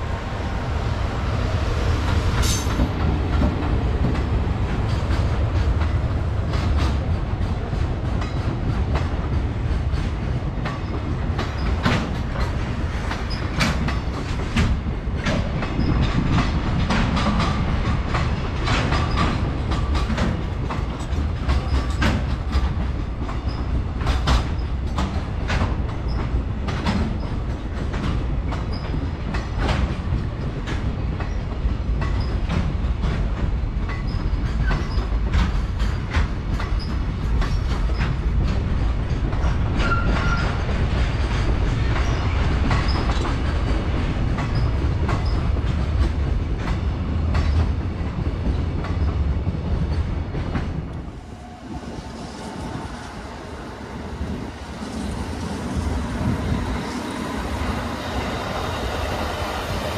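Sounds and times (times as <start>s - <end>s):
train rumbling past: 0.0s - 59.9s
wheels clacking on rail joints: 1.8s - 59.9s.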